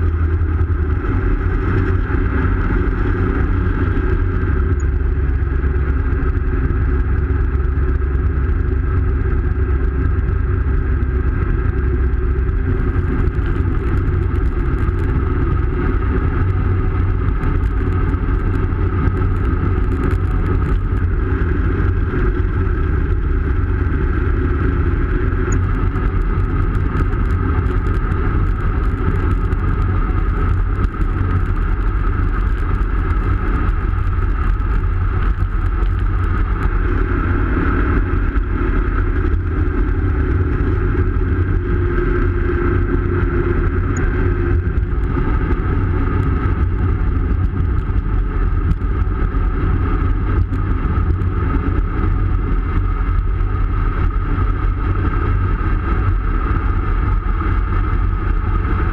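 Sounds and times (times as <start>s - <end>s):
bike tyre road noise: 0.0s - 58.9s
wind rushing over microphone: 0.0s - 58.9s.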